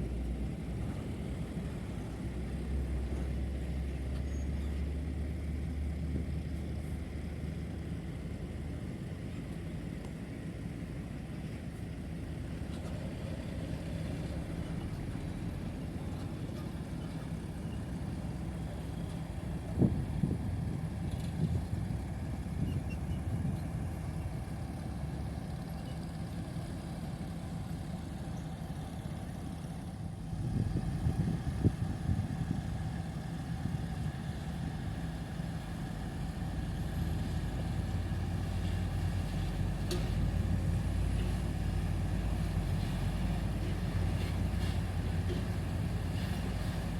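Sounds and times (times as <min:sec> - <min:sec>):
heavy diesel machinery rumbling: 0:00.0 - 0:46.9.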